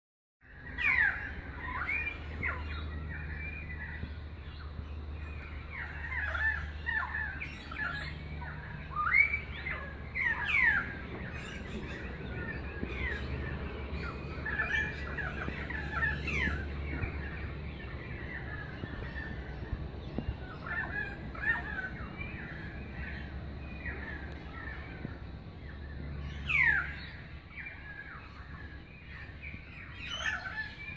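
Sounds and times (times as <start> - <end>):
birds whistling calls: 0.4 - 30.9.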